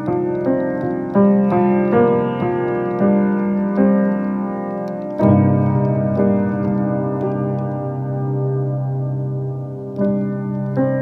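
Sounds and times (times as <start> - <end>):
slow solo piano: 0.0 - 11.0.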